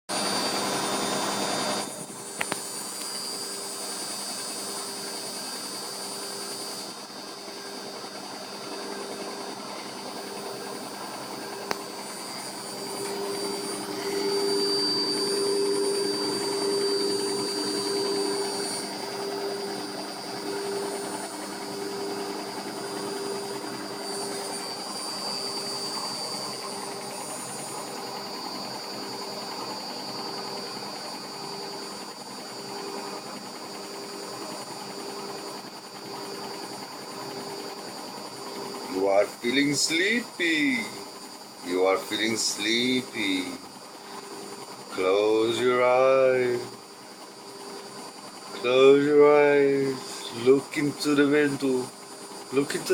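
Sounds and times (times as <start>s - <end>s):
washing machine motor hum: 0.1s - 52.9s.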